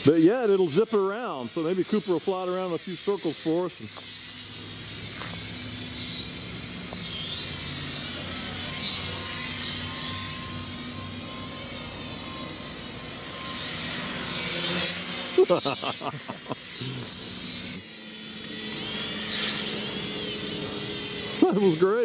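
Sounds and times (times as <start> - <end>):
quadcopter propellers whining: 0.0 - 22.0.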